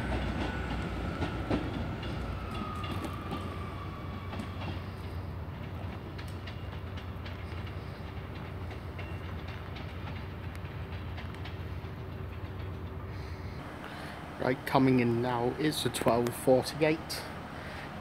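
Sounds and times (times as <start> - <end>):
wheels clicking over rails: 0.0 - 17.3
diesel train engine drone: 0.0 - 18.0.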